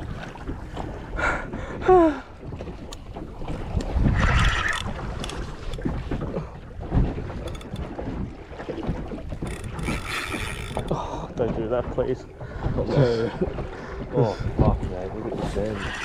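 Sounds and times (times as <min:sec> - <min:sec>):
water moving around boat: 0:00.0 - 0:16.0
wind buffeting microphone: 0:00.0 - 0:16.0.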